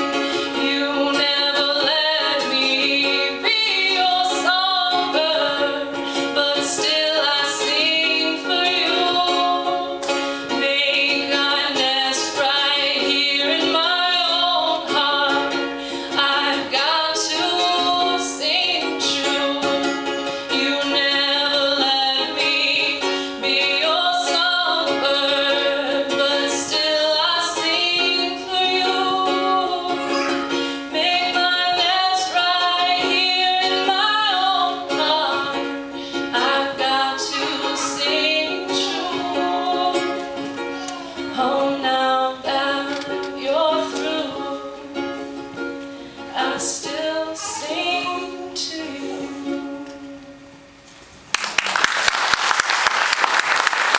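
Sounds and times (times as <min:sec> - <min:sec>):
woman singing: 0:00.0 - 0:50.2
strummed ukulele: 0:00.0 - 0:51.1.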